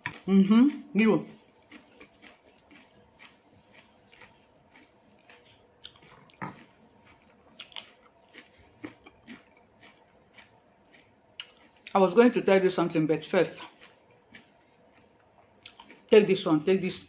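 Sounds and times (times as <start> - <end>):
person chewing food: 0.0 - 12.0, 13.5 - 16.2.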